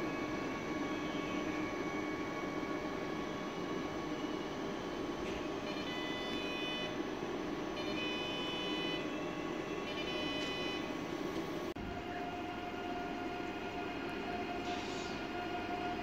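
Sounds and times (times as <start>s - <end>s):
train low rumble and hum: 0.0s - 16.0s.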